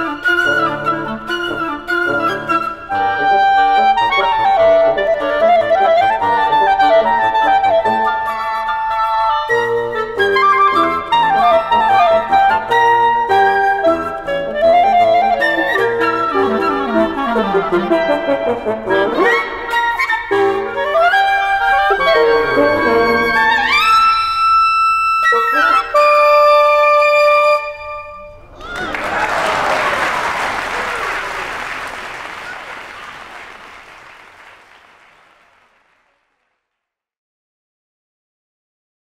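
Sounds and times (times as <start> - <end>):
woodwind quintet playing: 0.0 - 34.8.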